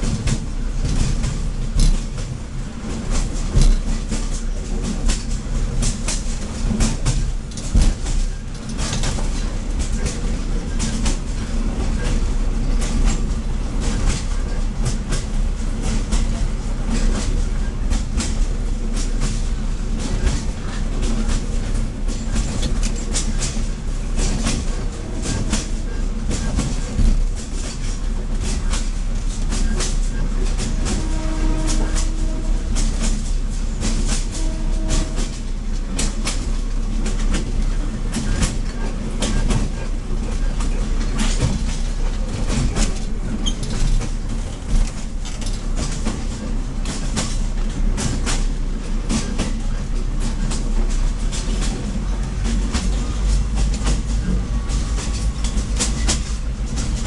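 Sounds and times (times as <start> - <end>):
railcar engine and wheels rumbling: 0.0 - 57.0
wheels clicking over rail joints: 0.0 - 57.0.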